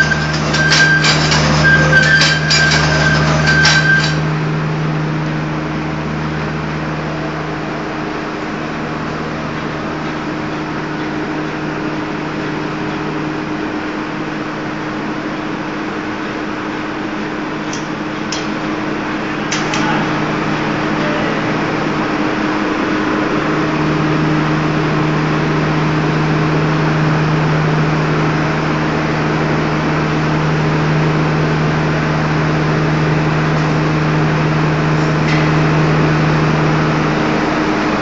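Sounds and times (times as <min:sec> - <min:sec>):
high whine: 0:00.0 - 0:38.0
machine humming: 0:00.0 - 0:38.0.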